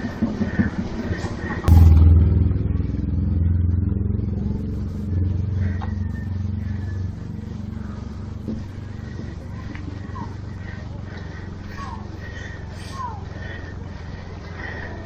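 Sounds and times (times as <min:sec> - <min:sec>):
vehicle engine passing by: 0:01.6 - 0:14.4.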